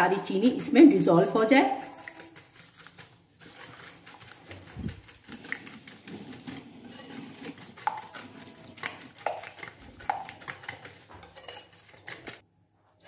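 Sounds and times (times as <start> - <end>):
whisk beating in glass bowl: 0.4 - 12.4.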